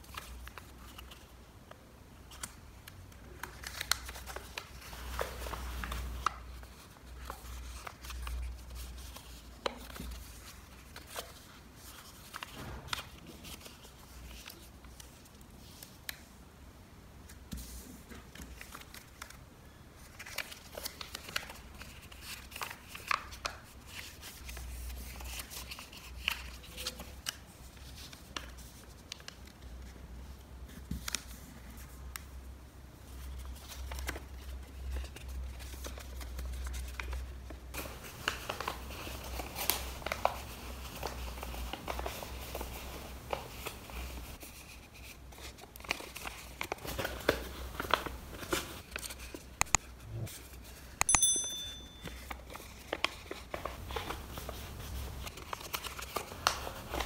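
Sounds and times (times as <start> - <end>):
paper being folded and creased: 0.0 - 1.3, 2.2 - 16.2, 17.3 - 19.4, 20.0 - 32.3, 33.1 - 51.0, 52.1 - 57.0.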